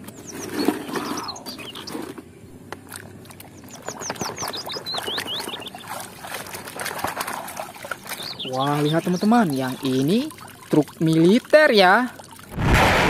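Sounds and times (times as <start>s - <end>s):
birds chirping: 0.0s - 12.0s
muddy water sloshing: 0.0s - 12.6s.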